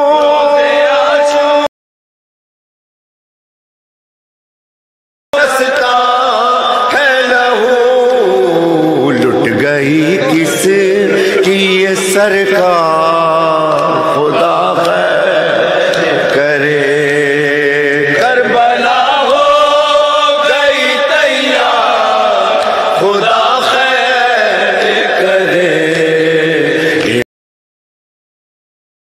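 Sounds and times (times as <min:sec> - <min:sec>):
man chanting a lament: 0:00.0 - 0:01.7, 0:05.4 - 0:27.3.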